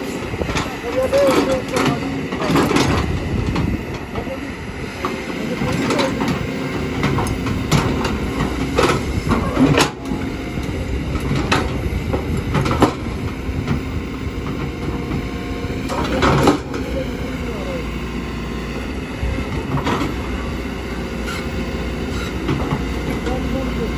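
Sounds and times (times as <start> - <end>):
diesel engine running under load: 0.0 - 23.9.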